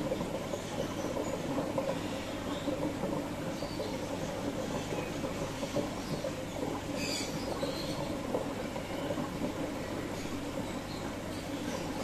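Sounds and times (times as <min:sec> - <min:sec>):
aquarium filter and pump humming: 0:00.0 - 0:12.0.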